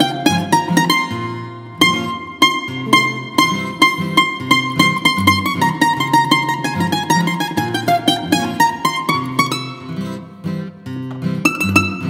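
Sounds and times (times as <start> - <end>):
bouzouki picked solo: 0.0 - 12.0.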